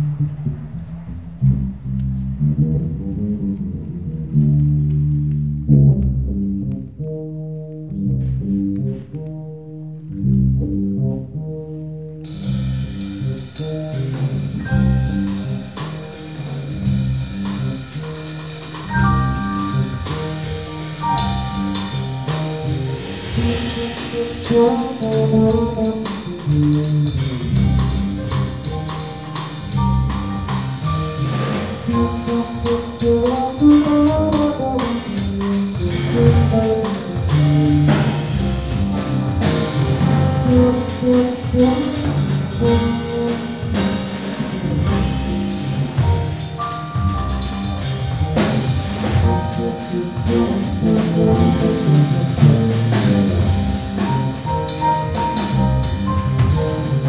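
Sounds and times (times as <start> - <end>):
electric bass jazz line: 0.0 - 57.0
higher notes above bass: 0.0 - 57.0.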